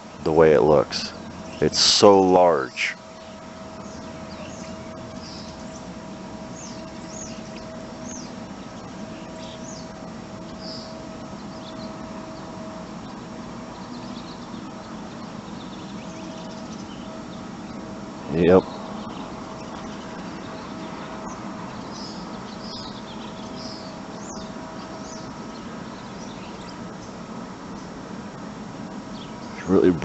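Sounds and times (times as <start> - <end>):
birds chirping: 0.0 - 30.0
steady background hum: 0.0 - 30.0.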